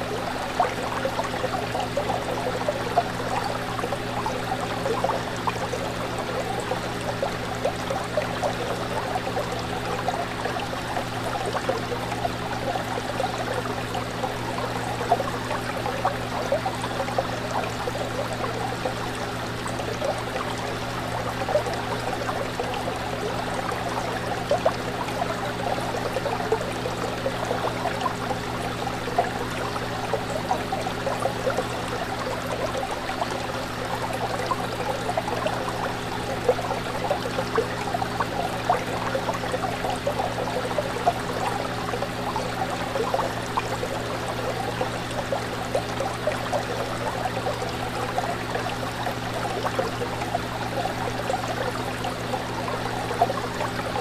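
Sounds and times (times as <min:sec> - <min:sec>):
aquarium water bubbling: 0:00.0 - 0:54.0.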